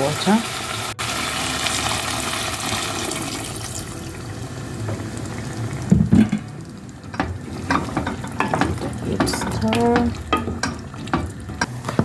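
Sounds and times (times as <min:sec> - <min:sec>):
water poured into hot pan: 0:00.0 - 0:10.4.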